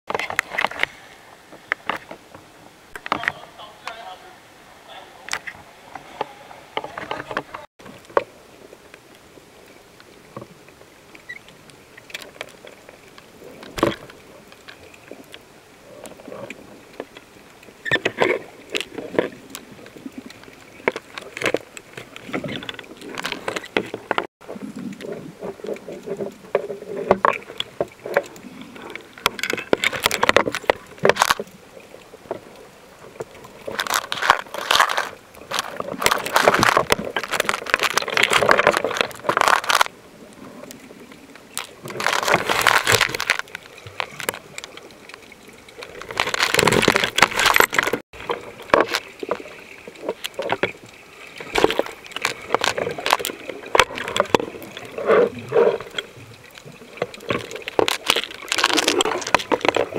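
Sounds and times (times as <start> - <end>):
underwater rushing water: 0.1 - 59.9
small clicks in water: 10.0 - 59.9.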